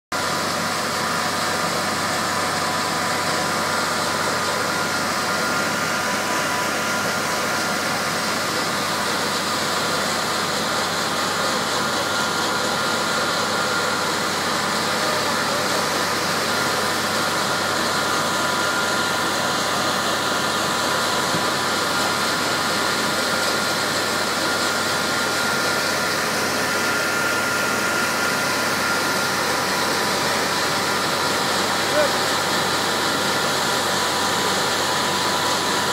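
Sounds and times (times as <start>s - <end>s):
fire truck engines running pumps: 0.1s - 35.9s
steady whine: 0.2s - 35.9s.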